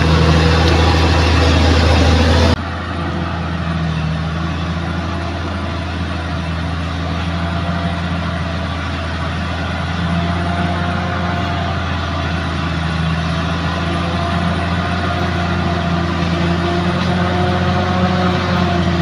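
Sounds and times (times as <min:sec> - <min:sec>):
diesel engine running steadily: 0:00.0 - 0:19.0.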